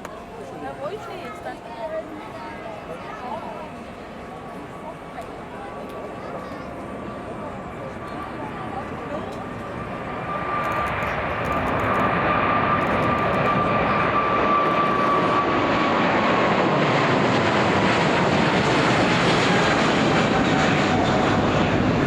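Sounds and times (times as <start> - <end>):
jet engines roaring with whine: 0.0 - 22.0.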